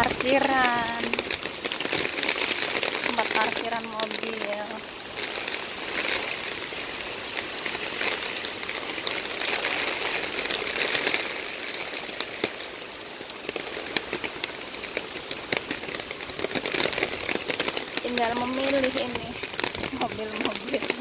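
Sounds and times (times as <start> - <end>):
rain hissing: 0.0 - 21.0
raindrops tapping on an umbrella: 0.0 - 21.0.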